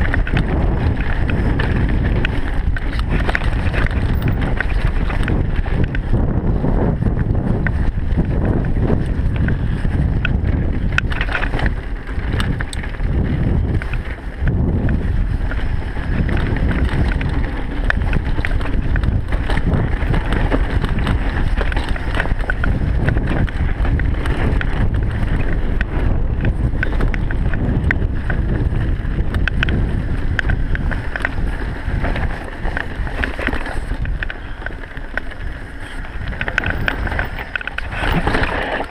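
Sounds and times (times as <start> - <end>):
bike clicks and rattles: 0.0 - 38.9
wind buffeting microphone: 0.0 - 38.9.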